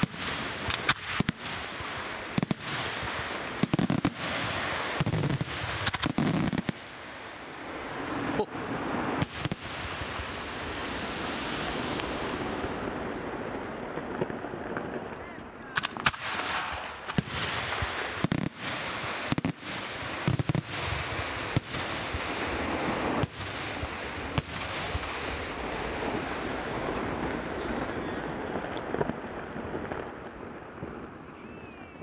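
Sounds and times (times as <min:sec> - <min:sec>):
fireworks bangs: 0:00.0 - 0:31.8
fireworks crackle: 0:00.0 - 0:32.0.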